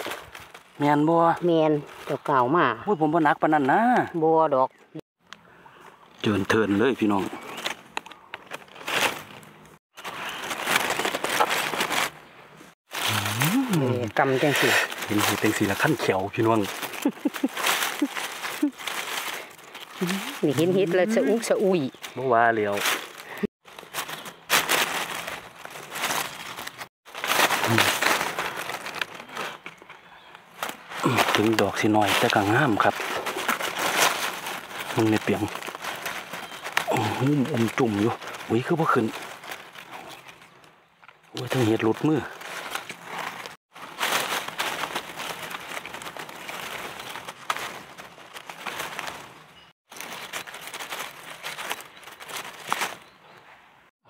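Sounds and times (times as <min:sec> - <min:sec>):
dry leaves rustling and crackling: 0:00.0 - 0:04.3, 0:06.2 - 0:53.4.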